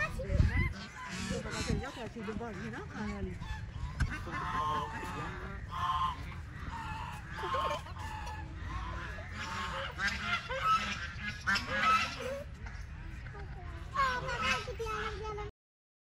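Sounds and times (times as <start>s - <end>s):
geese honking: 0.0s - 15.4s.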